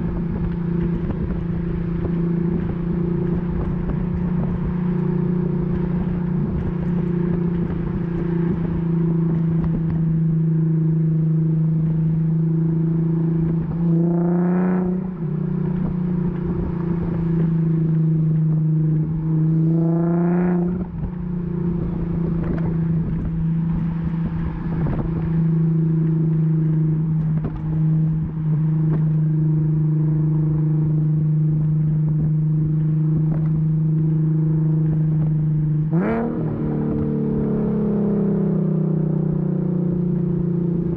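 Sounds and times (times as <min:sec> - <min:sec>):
car exhaust droning while driving: 0:00.0 - 0:40.9.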